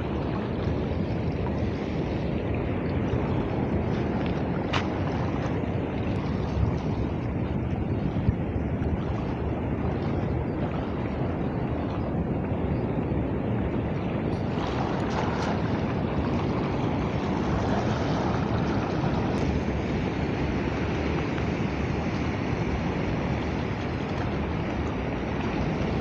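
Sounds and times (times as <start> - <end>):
water sloshing as people wade: 0.0 - 26.0
wind rumbling on microphone: 0.0 - 26.0.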